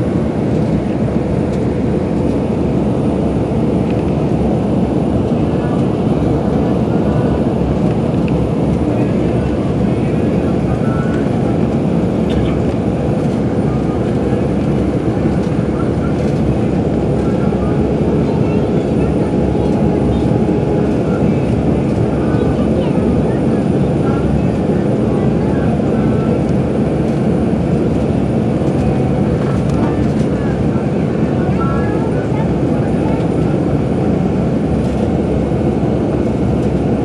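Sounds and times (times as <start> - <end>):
bus engine and tyres rumbling: 0.0 - 37.0.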